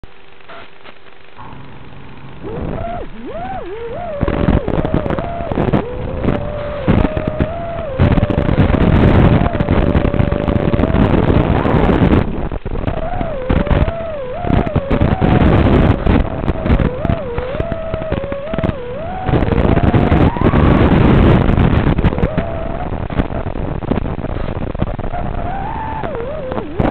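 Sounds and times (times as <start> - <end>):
drone motors whining: 1.4 - 26.9.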